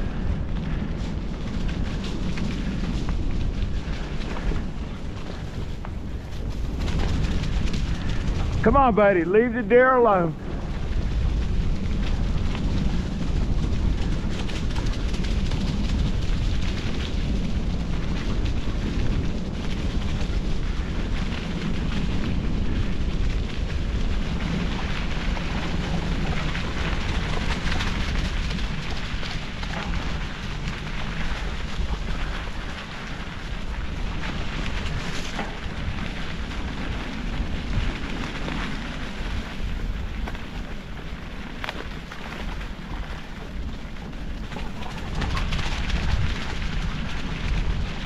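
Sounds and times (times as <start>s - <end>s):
bicycle tyres rolling over trail: 0.0s - 48.0s
wind rumble on microphone: 0.0s - 48.0s.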